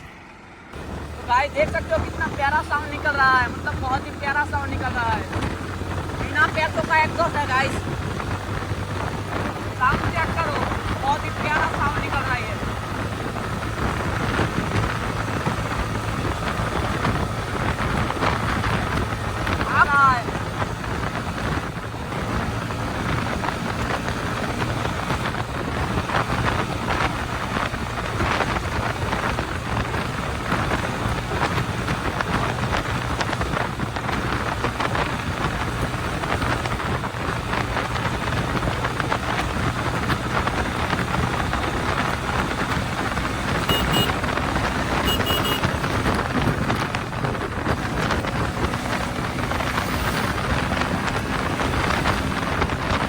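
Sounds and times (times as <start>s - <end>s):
motorcycle engine running: 0.0s - 53.0s
wind rushing on microphone: 0.0s - 53.0s.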